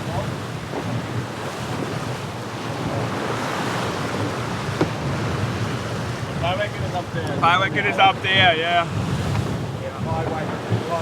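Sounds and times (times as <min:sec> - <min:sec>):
water streaming past hull: 0:00.0 - 0:11.0
wind on microphone: 0:00.0 - 0:11.0.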